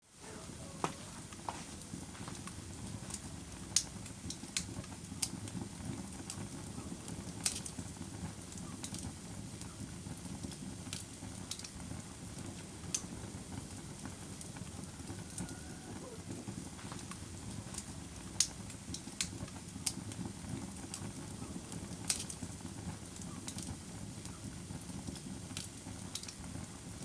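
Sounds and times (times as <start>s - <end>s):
wood fire crackling: 0.1s - 27.0s.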